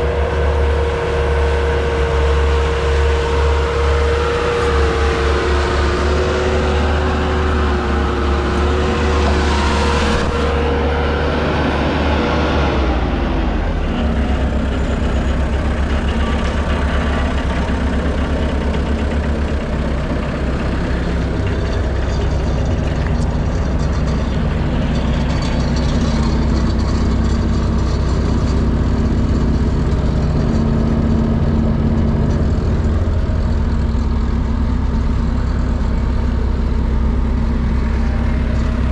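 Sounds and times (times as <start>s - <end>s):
high whine: 0.0s - 38.9s
skid steer engine running: 0.0s - 38.9s.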